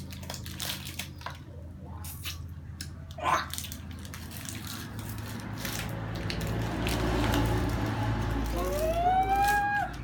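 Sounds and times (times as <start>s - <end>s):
plastic wrappers crinkling: 0.0s - 1.5s, 2.2s - 10.0s.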